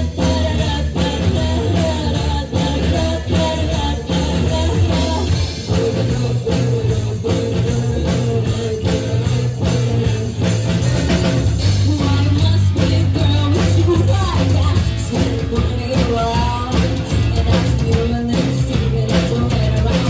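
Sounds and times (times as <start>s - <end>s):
bass: 0.0s - 20.0s
drum kit: 0.0s - 20.0s
electric guitar: 0.0s - 20.0s.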